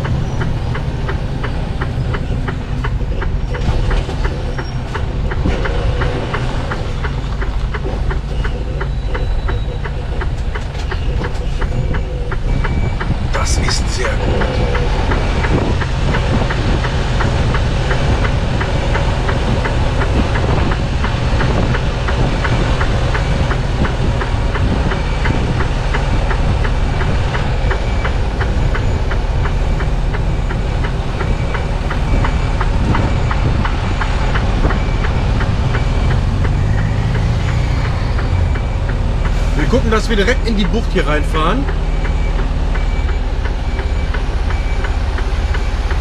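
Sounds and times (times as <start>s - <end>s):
diesel truck engine running: 0.0s - 46.0s
turn signal ticking: 0.0s - 46.0s.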